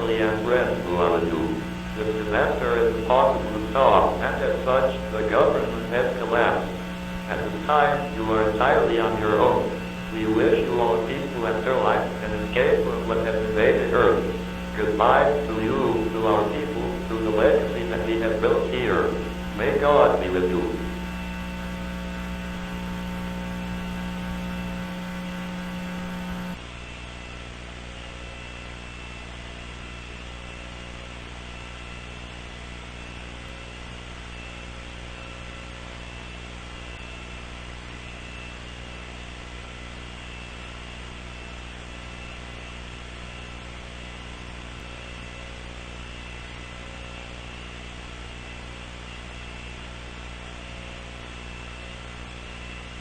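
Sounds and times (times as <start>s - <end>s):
electronic hum with hiss: 0.0s - 53.0s.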